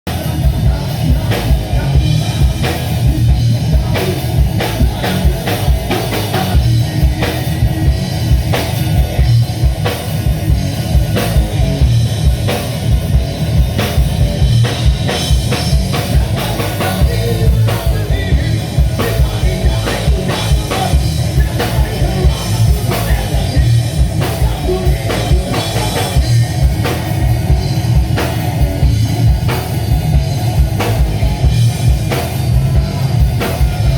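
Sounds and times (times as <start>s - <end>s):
band playing: 0.0s - 33.9s
drum kit steady beat: 0.0s - 33.9s
guitar: 0.0s - 33.9s
heavy bass: 0.0s - 33.9s.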